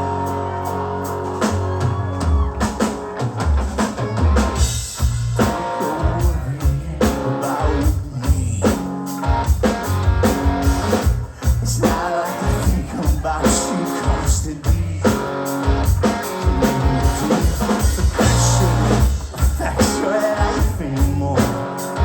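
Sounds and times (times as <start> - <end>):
busy drum pattern: 0.0 - 22.0
rock band playing: 0.0 - 22.0.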